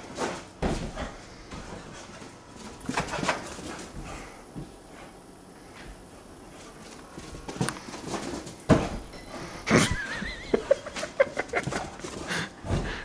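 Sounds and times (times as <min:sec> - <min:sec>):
dog paws thumping and scrambling: 0:00.0 - 0:05.1, 0:05.8 - 0:13.0.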